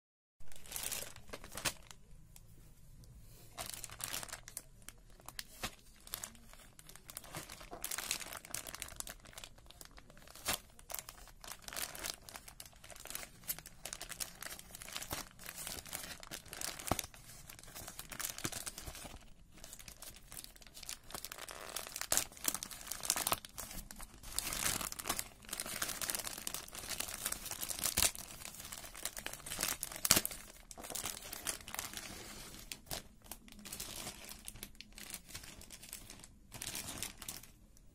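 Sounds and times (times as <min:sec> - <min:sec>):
plastic packaging crinkling and tearing: 0:00.4 - 0:02.1, 0:03.5 - 0:37.9.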